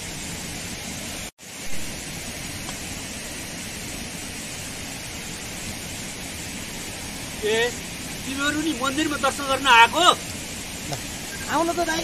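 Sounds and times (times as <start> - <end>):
steady outdoor rushing noise: 0.0 - 12.0.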